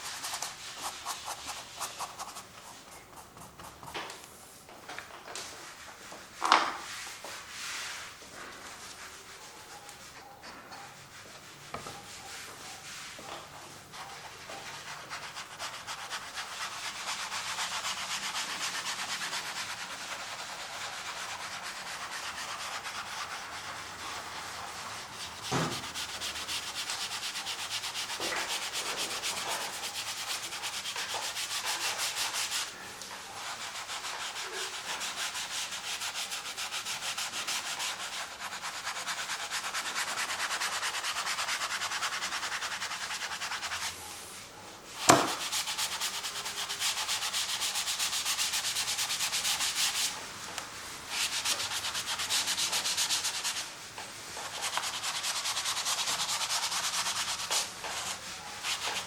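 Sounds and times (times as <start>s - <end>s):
paint scrubbing on canvas: 0.0s - 4.5s, 5.6s - 59.0s.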